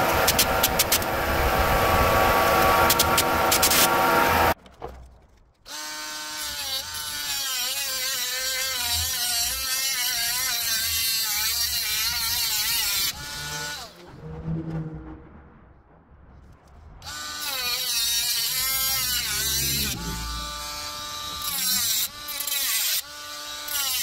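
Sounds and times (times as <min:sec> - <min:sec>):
grinder cutting plastic: 0:00.0 - 0:14.1, 0:17.0 - 0:24.0.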